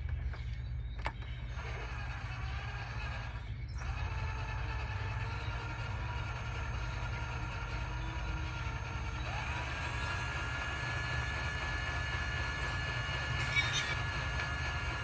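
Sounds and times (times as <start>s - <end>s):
machine hum with high whine: 0.0s - 15.0s.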